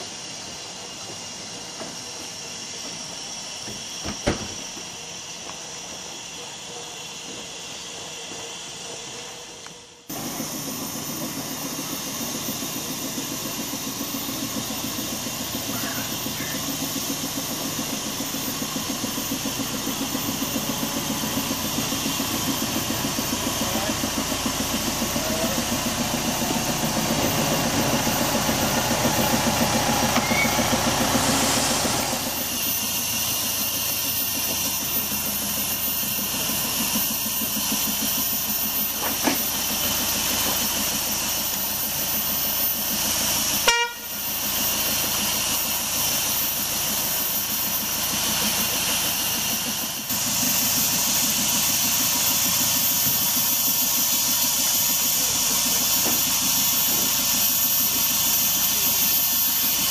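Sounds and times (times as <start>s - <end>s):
diesel locomotive engine throbbing: 0.0s - 59.9s.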